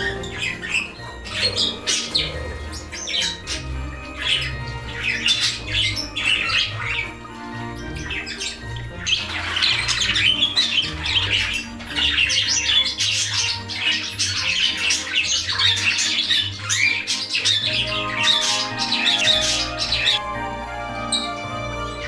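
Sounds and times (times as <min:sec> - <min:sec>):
background music: 0:00.0 - 0:22.0
birds chirping and squawking: 0:00.0 - 0:22.0.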